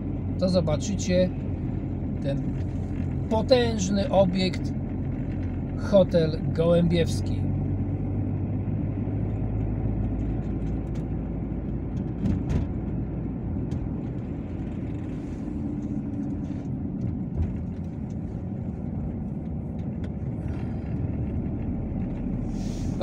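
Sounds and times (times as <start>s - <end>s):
car engine and tyre hum: 0.0s - 23.0s.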